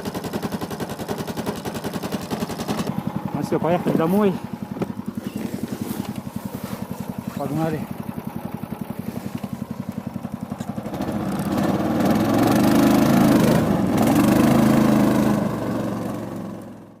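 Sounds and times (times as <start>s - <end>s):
vehicle engine revving: 2.2s - 16.8s.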